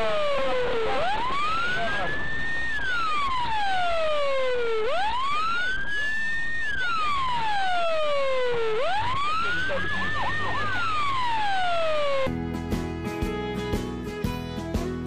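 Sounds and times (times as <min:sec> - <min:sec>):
emergency siren wailing: 0:00.0 - 0:12.3.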